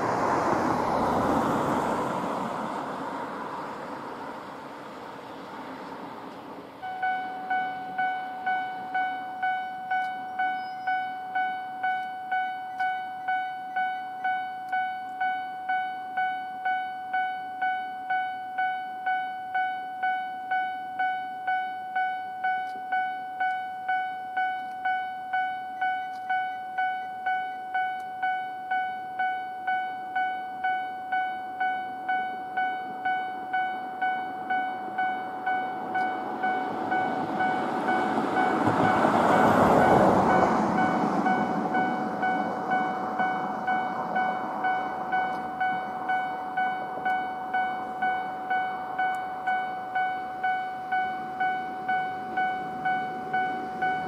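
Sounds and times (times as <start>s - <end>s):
train approaching: 0.0s - 54.0s
level crossing electronic bell: 6.8s - 39.1s, 39.8s - 54.0s.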